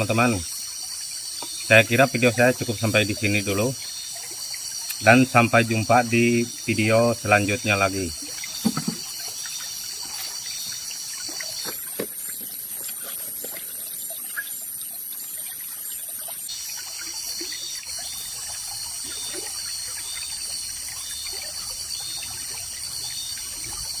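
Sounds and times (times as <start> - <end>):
pulsing insect chorus: 0.0 - 24.0
water trickling: 0.0 - 24.0.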